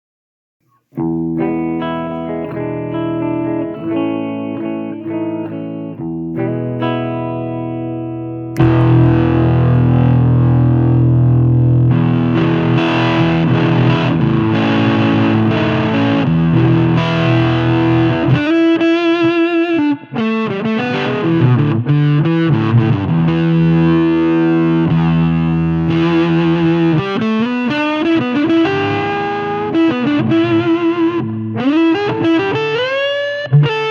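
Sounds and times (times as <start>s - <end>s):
fuzz electric guitar: 0.9s - 33.9s.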